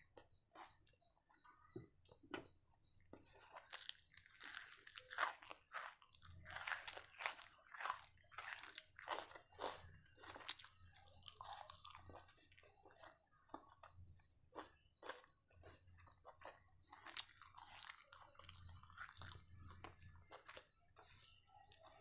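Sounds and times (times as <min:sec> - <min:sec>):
crunchy onion chewing: 0:03.3 - 0:22.0.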